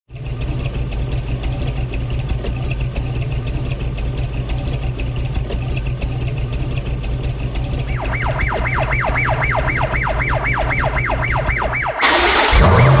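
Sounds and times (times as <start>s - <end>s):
engine idling with clatter: 0.1s - 13.0s.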